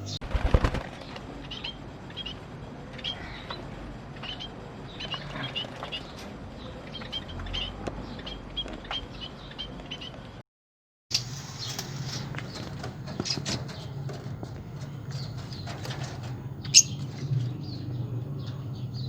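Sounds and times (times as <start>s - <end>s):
cage birds chirping: 0.0s - 10.4s, 11.1s - 19.0s.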